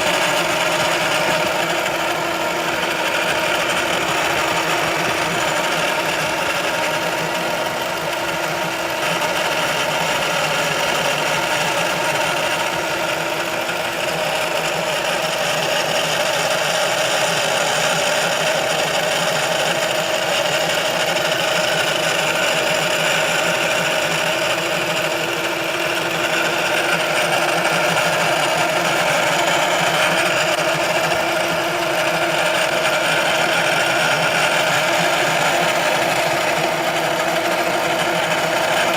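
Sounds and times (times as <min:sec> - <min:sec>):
car mechanical running noise: 0:00.0 - 0:38.9.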